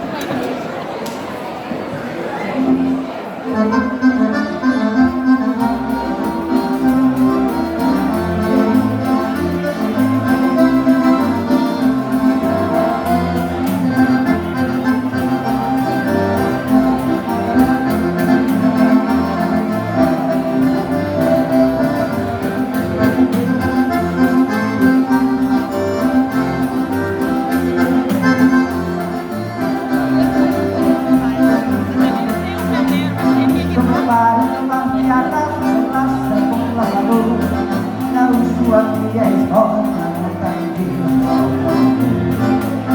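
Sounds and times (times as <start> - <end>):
accordion dance music: 2.6 - 42.9
bass line: 3.8 - 42.9
steady beat: 5.0 - 42.9.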